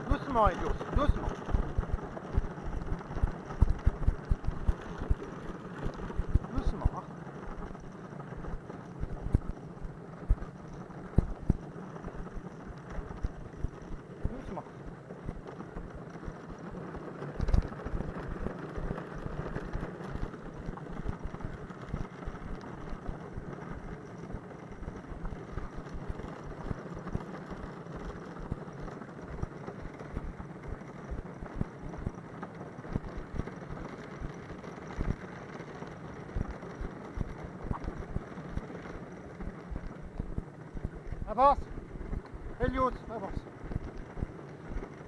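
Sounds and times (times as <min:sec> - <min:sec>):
cart knocks and thumps: 0:00.0 - 0:45.0
wooden cart rattling on asphalt: 0:00.0 - 0:45.0.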